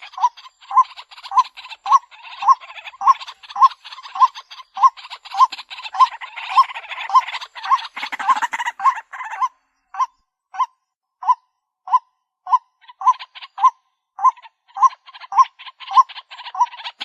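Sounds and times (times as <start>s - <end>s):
stuttering bird chatter: 0.0s - 10.2s, 12.5s - 17.0s.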